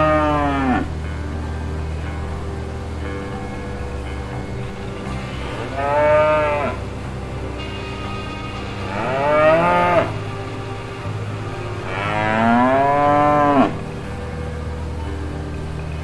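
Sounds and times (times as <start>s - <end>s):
low background tone: 0.0s - 16.0s.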